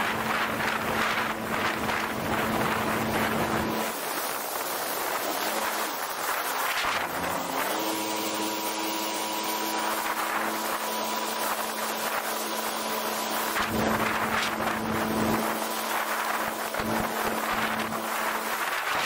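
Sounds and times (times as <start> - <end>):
personal watercraft engine at speed: 0.0 - 19.0
wind on microphone: 0.0 - 19.0
spray and wake hissing: 0.2 - 19.0.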